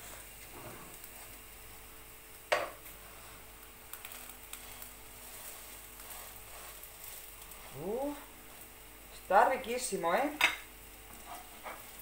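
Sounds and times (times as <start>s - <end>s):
fritters frying in a pan: 0.0s - 12.0s.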